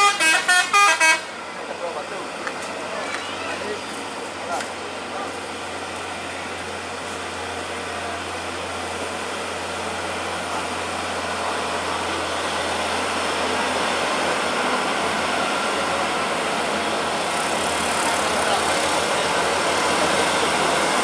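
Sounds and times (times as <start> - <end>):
road noise: 0.0 - 21.0
truck diesel engine: 0.0 - 21.0.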